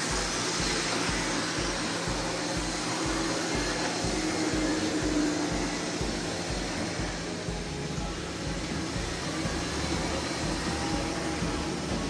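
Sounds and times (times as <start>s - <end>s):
faint steady whine: 0.0s - 12.0s
model train rolling rumble: 0.0s - 12.0s
motor whir: 0.0s - 12.0s
low repeating pulse: 0.1s - 12.0s.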